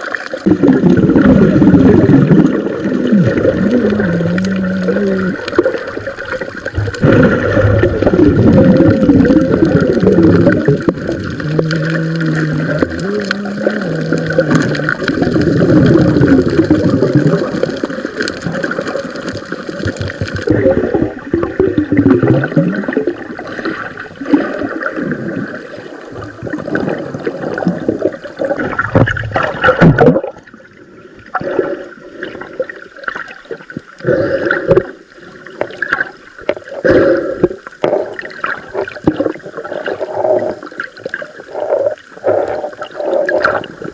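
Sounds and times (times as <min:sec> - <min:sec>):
water gurgling and bubbling: 0:00.0 - 0:43.9.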